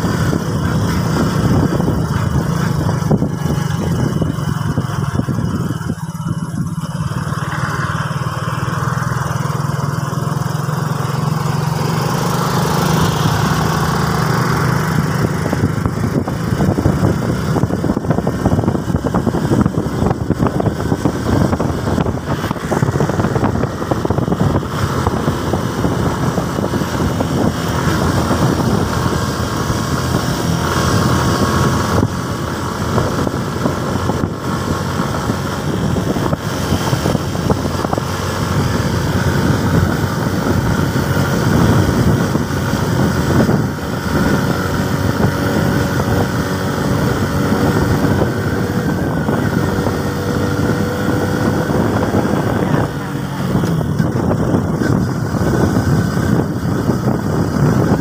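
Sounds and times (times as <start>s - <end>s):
motorcycle engine running: 0.0s - 58.0s
wind rush on microphone: 0.0s - 58.0s.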